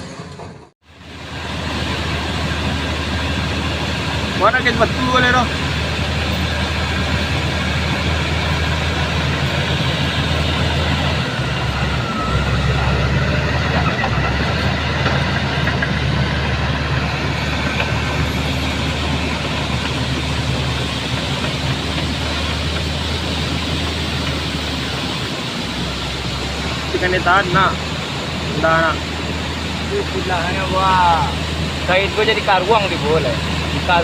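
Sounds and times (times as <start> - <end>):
heavy vehicle engine hum: 0.0 - 34.0
constant rushing noise: 0.3 - 34.0.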